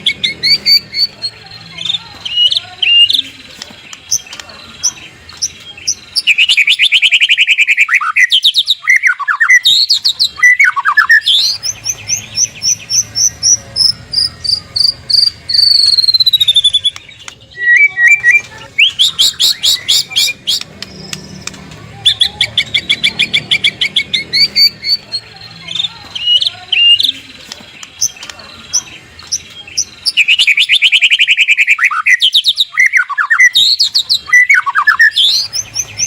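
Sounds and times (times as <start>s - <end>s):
songbird singing trills: 0.0s - 36.0s.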